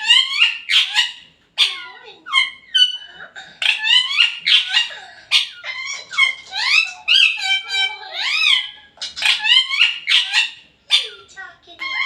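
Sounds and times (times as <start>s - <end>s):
parakeets chattering and screeching: 0.0s - 12.0s.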